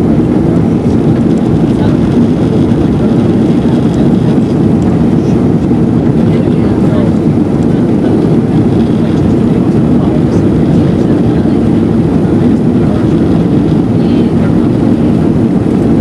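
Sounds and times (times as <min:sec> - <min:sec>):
jet engine cabin roar: 0:00.0 - 0:16.0.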